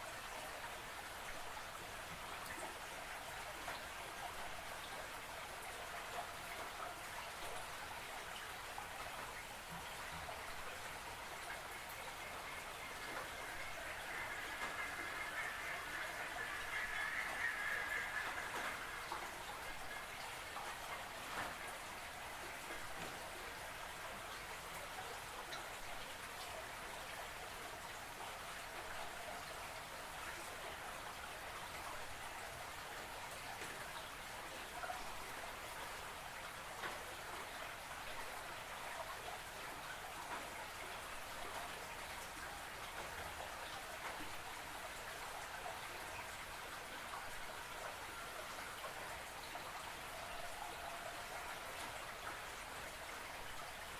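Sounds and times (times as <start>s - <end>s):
creek water running: 0.0s - 53.9s.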